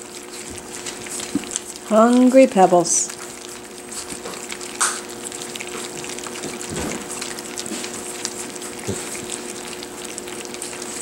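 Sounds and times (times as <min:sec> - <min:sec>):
puppies lapping and smacking: 0:00.0 - 0:11.0
tongues and teeth ticking on dish: 0:00.0 - 0:11.0.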